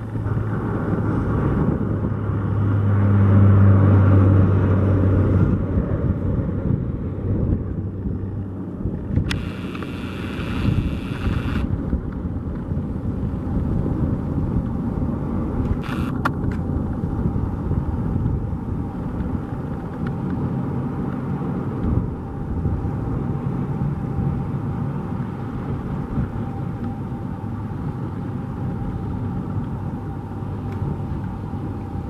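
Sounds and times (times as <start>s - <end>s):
turboprop aircraft climbing: 0.0s - 32.0s.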